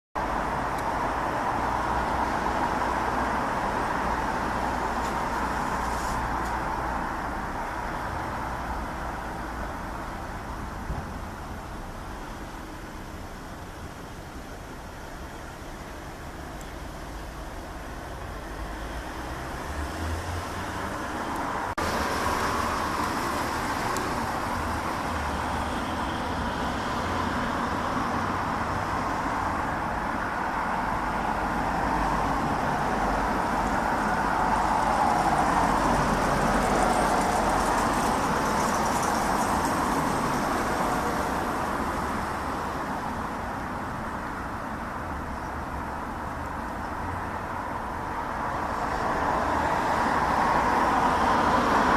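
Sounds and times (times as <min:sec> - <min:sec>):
distant jet rumble overhead: 0:00.2 - 0:51.9.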